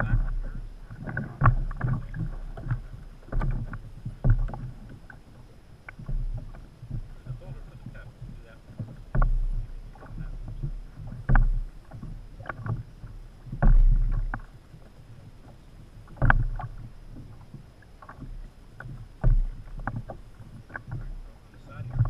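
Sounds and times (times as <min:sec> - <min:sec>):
waves slapping against hull: 0:00.0 - 0:22.0
wind rumble on microphone: 0:00.0 - 0:22.0.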